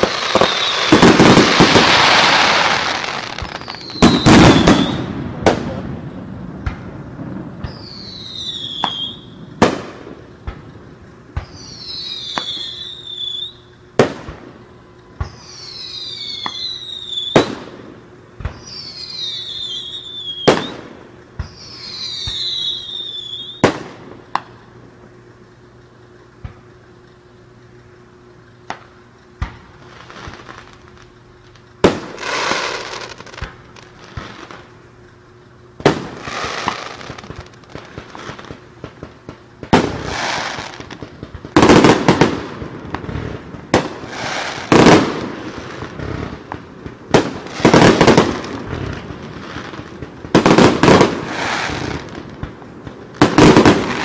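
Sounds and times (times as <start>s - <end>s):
firework whistles: 0.0s - 24.6s, 28.6s - 54.0s
firework bangs: 0.0s - 24.7s, 28.7s - 31.2s, 31.8s - 34.8s, 35.8s - 54.0s
firework crackling: 0.0s - 54.0s.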